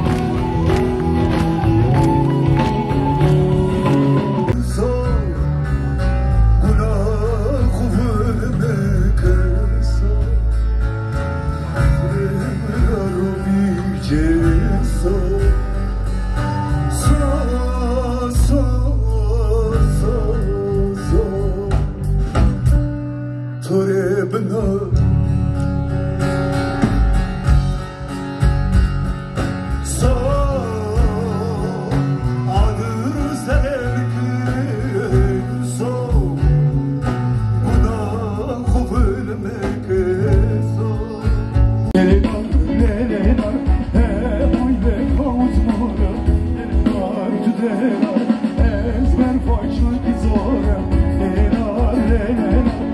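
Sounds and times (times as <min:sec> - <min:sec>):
man singing: 0:00.0 - 0:22.8, 0:23.4 - 0:25.9, 0:29.7 - 0:52.9
bass line: 0:00.0 - 0:52.9
electric guitar: 0:00.0 - 0:52.9.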